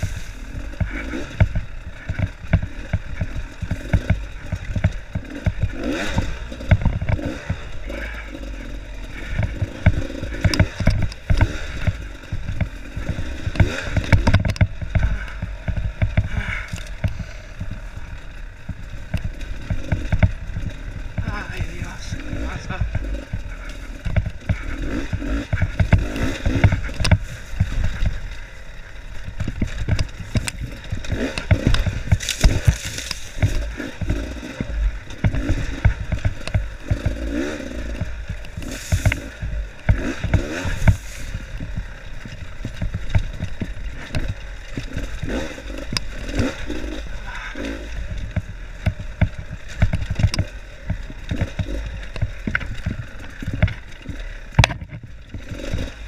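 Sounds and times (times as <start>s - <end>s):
dirt bike engine revving: 0.0s - 56.0s
wheels knocking on loose rocks: 0.0s - 56.0s.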